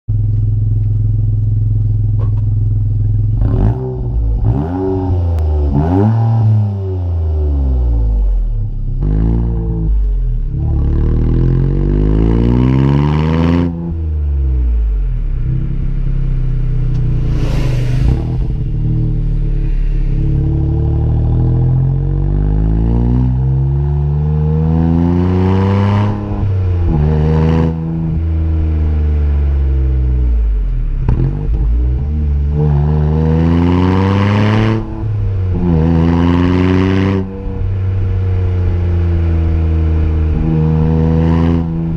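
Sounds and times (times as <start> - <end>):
car engine revving: 0.3 - 41.9.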